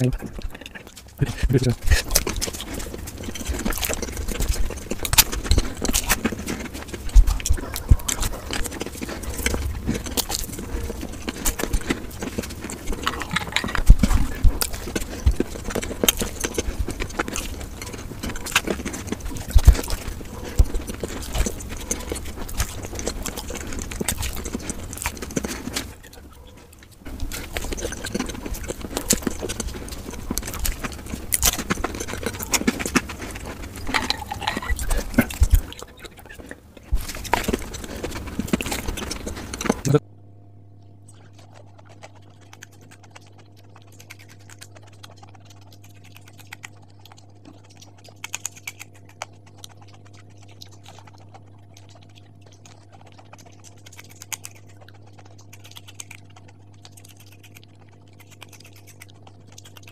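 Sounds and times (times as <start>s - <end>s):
crunchy chewing: 0.0s - 40.0s, 40.7s - 59.9s.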